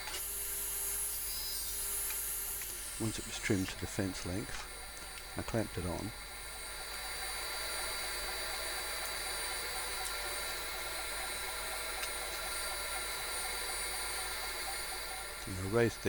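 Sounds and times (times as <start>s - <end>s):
electric machine whining: 0.0s - 16.0s.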